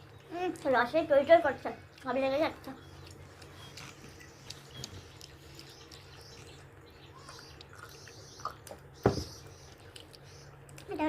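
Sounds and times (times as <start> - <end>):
low steady hum: 0.0 - 11.0
wet chewing and mouth clicks: 0.0 - 11.0.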